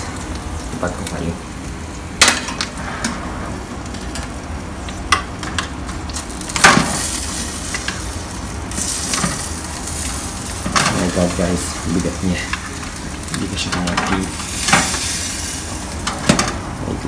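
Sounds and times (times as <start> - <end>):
chicken sizzling on metal tray: 0.0 - 17.0.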